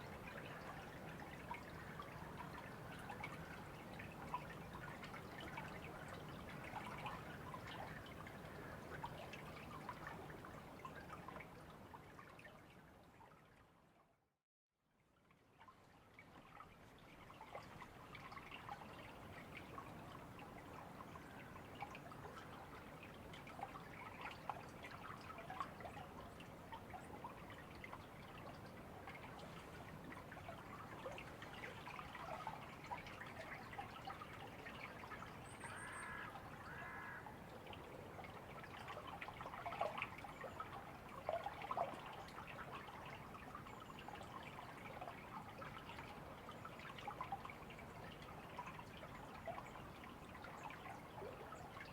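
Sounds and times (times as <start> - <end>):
stream trickling: 0.0 - 14.2, 15.0 - 51.9.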